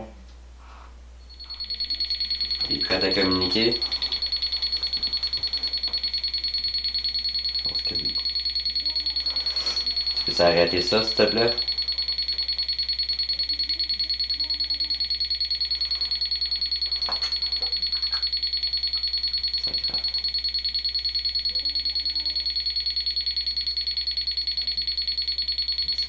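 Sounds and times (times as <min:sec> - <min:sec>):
pulsing electronic alarm tone: 0:01.3 - 0:26.0.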